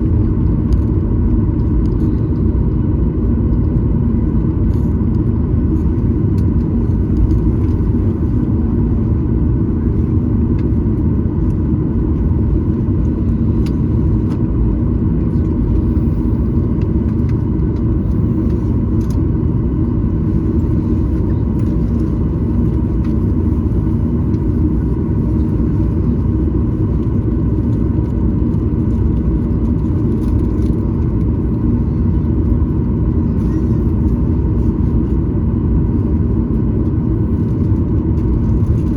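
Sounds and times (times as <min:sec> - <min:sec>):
jet cabin rumble: 0:00.0 - 0:38.9.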